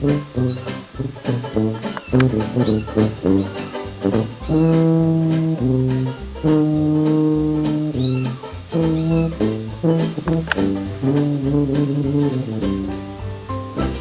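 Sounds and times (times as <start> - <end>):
instrumental swing jazz music: 0.0 - 14.0.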